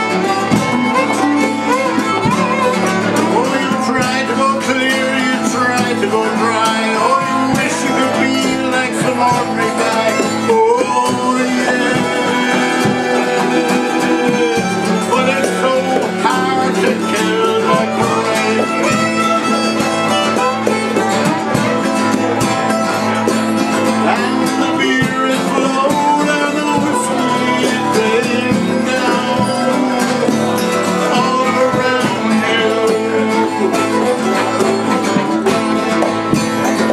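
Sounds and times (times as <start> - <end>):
fiddle bowing melody: 0.0 - 36.9
strummed acoustic guitar: 0.0 - 36.9
strummed mandolin: 0.0 - 36.9.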